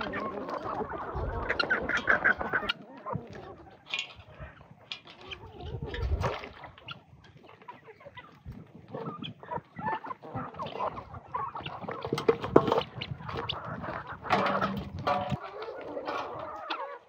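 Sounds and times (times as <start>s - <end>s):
poultry clucking and calling: 0.0s - 17.0s.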